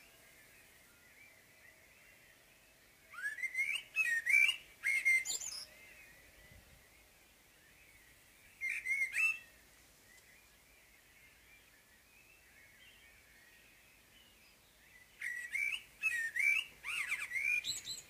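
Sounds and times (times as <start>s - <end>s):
blackbird singing: 0.0s - 9.5s, 10.1s - 18.0s
faint background birdsong: 0.0s - 18.0s.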